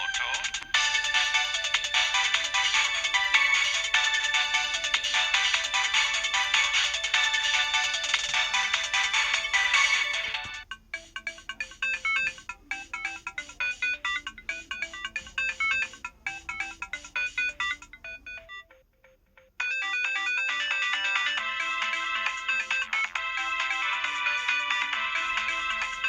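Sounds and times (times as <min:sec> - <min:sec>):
denser ringtone melody: 0:00.0 - 0:26.0
synthesized phone ringtone: 0:00.0 - 0:26.0.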